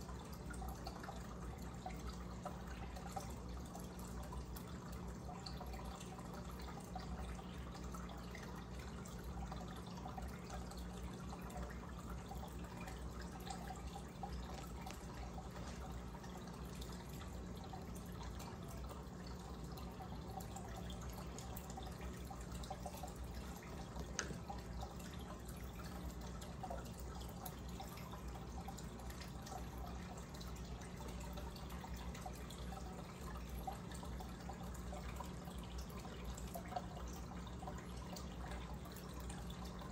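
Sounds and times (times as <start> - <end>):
aquarium air stone bubbling: 0.0 - 39.9
steady low hum: 0.0 - 39.9.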